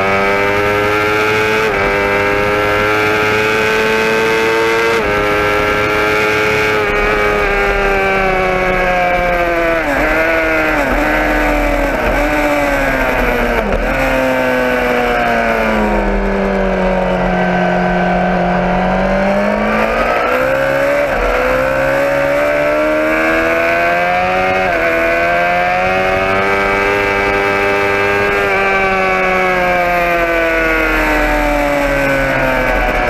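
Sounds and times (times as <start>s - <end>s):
motorcycle engine running hard: 0.0s - 33.0s.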